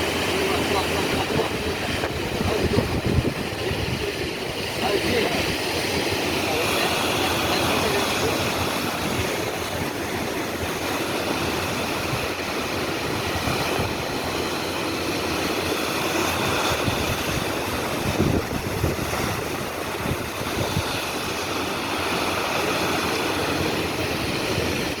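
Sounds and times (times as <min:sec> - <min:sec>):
surf washing against rocks: 0:00.0 - 0:25.0.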